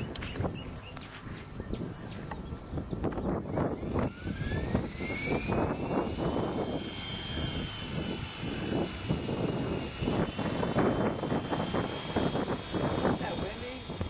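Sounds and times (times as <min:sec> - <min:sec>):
electric rc helicopter whining: 0:00.0 - 0:14.0
wind buffeting microphone: 0:00.0 - 0:14.0.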